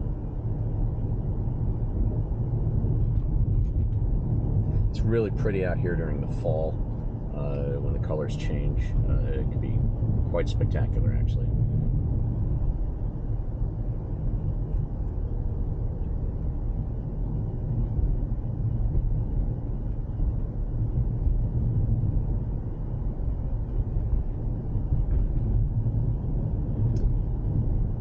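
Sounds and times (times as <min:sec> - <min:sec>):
car tyres and engine rumble: 0:00.0 - 0:28.0.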